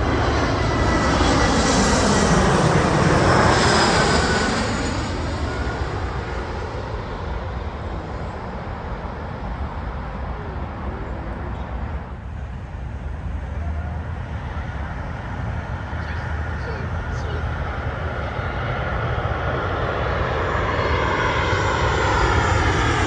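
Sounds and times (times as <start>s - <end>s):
steady low rumble: 0.0s - 22.8s
jet airliner noise: 0.0s - 23.0s.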